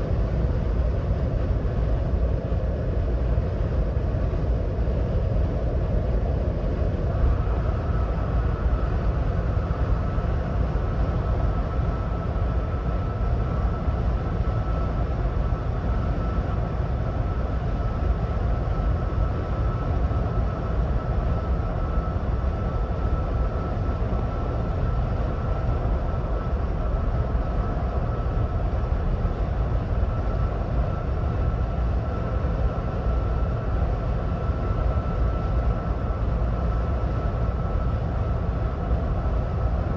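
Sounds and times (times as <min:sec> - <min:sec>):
faint steady whine: 0:00.0 - 0:39.9.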